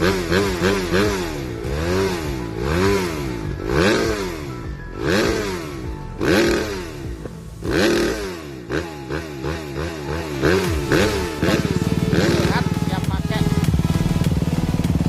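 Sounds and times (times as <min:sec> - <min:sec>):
motocross engine revving: 0:00.0 - 0:15.0.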